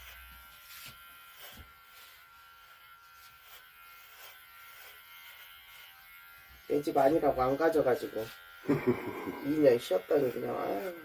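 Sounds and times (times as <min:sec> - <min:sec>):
hair clippers buzzing: 0:00.0 - 0:11.0.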